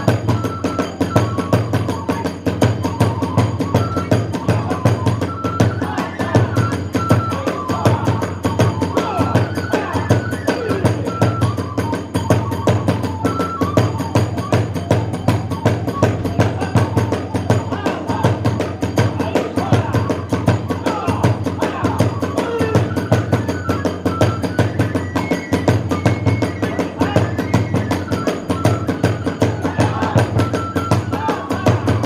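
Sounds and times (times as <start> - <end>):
bamboo flute notes: 0.0 - 32.0
drums: 0.0 - 32.0.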